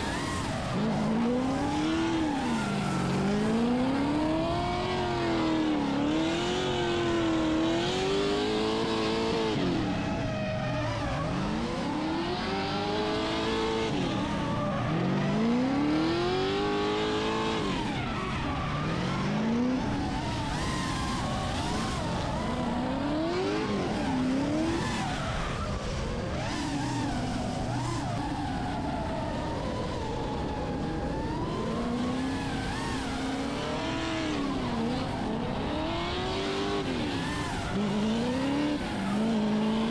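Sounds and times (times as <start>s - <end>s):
car engine revving hard: 0.0s - 9.8s, 10.9s - 25.1s, 31.4s - 39.9s.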